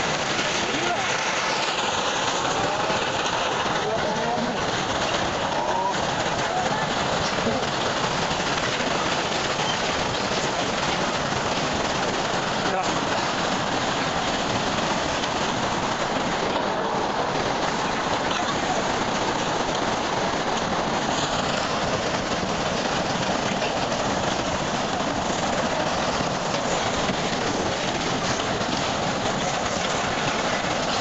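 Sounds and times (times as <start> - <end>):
dense rushing noise: 0.0 - 31.0
rapid ticks and rattles: 0.0 - 31.0.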